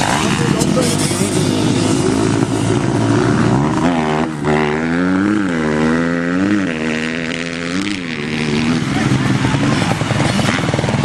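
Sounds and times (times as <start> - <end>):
motocross bike engine revving: 0.0 - 11.0.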